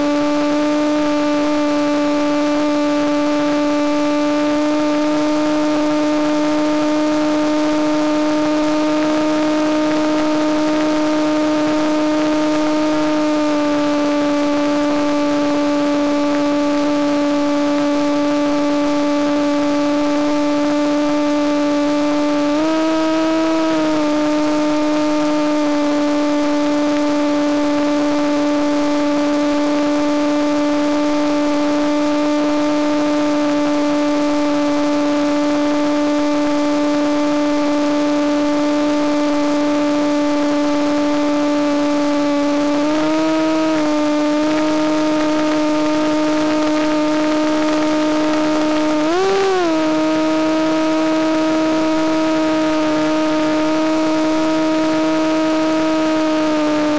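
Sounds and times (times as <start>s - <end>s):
model plane motor buzzing: 0.0s - 56.9s.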